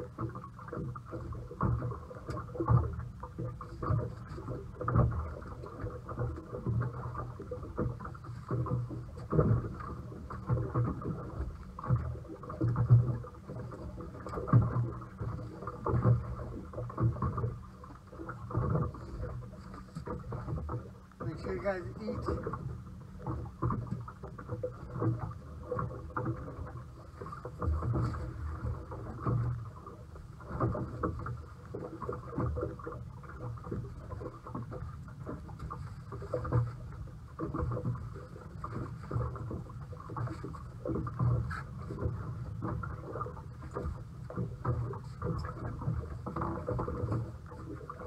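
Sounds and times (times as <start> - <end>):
boat engine rumble: 0.0 - 48.0
water knocks and splashes: 0.0 - 48.0.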